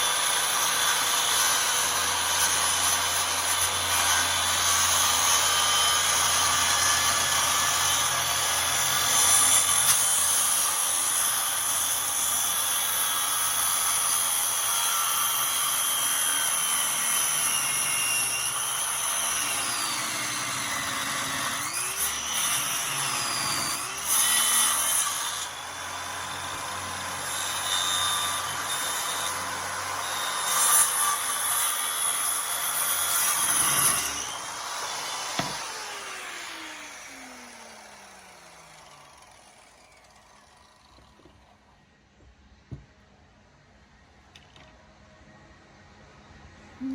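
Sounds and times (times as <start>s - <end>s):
electric saw cutting wood: 0.0s - 41.6s.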